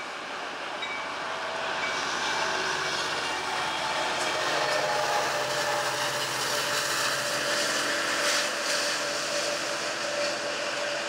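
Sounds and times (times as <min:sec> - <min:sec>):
train rolling away: 0:00.0 - 0:11.0.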